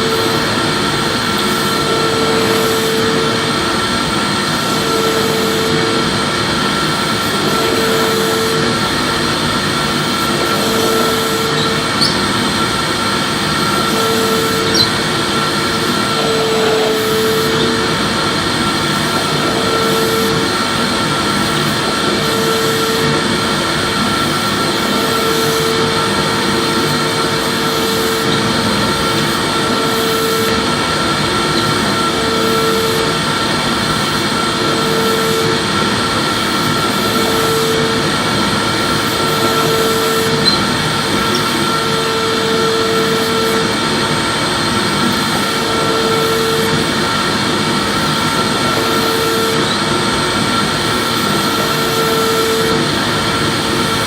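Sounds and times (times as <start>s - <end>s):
low hum of vacuuming strokes: 0.0s - 54.0s
vacuum cleaner whining: 0.0s - 54.0s.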